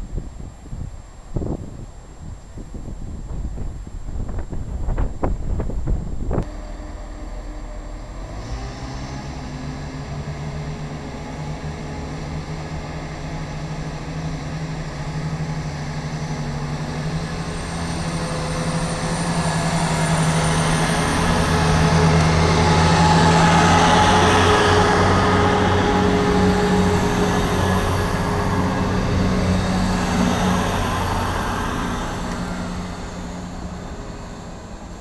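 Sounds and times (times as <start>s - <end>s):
diesel train engines droning: 0.0s - 35.0s.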